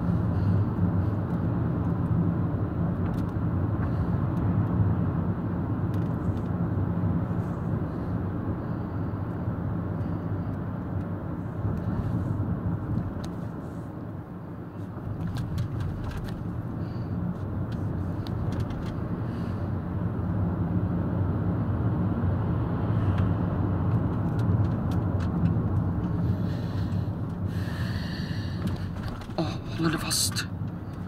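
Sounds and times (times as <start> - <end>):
car engine and tyre drone: 0.0 - 31.0.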